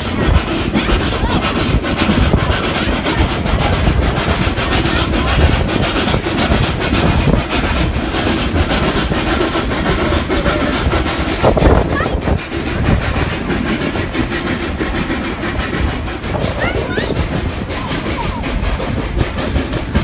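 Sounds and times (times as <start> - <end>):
train wheels clattering on rails: 0.0 - 20.0.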